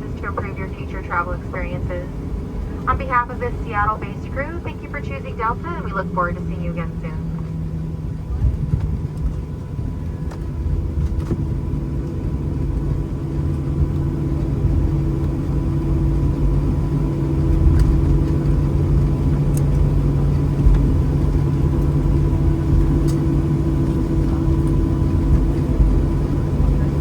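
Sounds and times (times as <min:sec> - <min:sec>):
jet engines rumbling and whining: 0:00.0 - 0:27.0.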